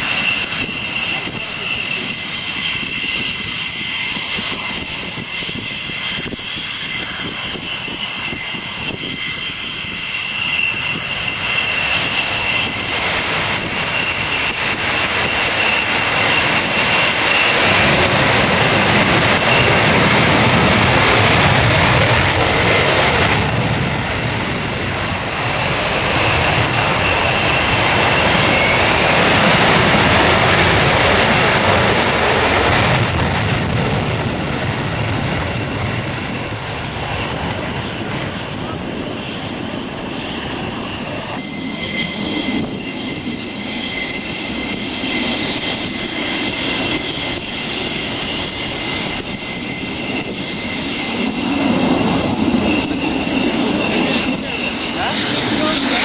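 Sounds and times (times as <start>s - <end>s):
jet engine whine: 0.0s - 56.0s
jet rushing roar with rumble: 0.0s - 56.0s.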